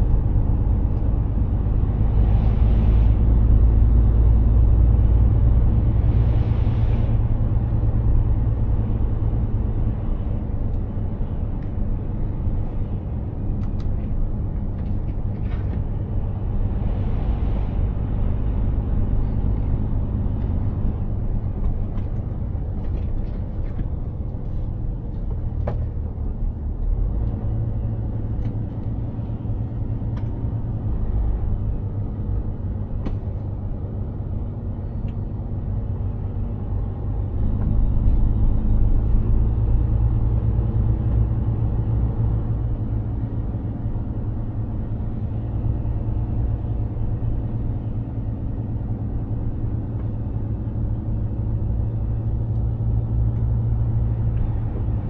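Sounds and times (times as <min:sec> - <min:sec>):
road and tyre noise: 0:00.0 - 0:55.0
truck engine low rumble: 0:00.0 - 0:55.0.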